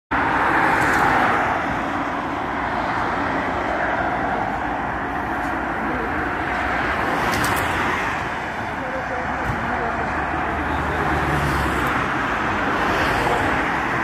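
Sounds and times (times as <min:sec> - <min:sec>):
motorway traffic rushing: 0:00.1 - 0:14.0.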